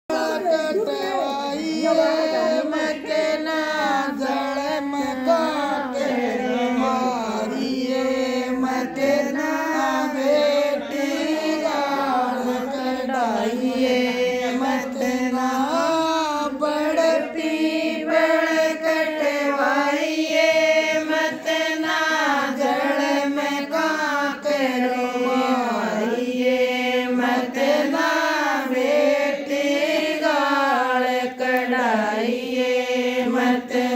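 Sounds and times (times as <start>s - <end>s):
woman singing unaccompanied: 0.0s - 33.9s.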